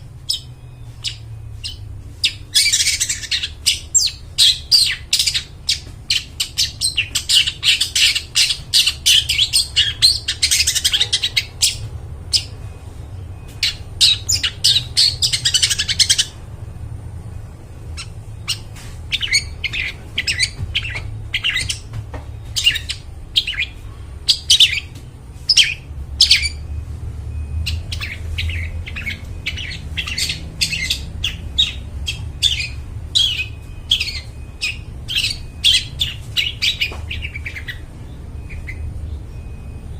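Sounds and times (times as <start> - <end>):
bird chattering calls: 0.2 - 16.5, 17.8 - 26.8, 27.4 - 39.6.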